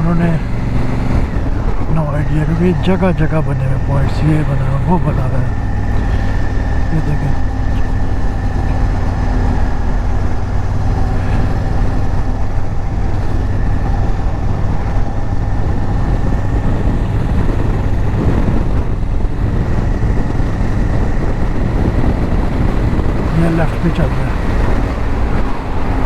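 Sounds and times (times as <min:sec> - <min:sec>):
motorcycle engine running: 0:00.0 - 0:26.0
road noise: 0:00.0 - 0:26.0
wind rush: 0:00.0 - 0:26.0.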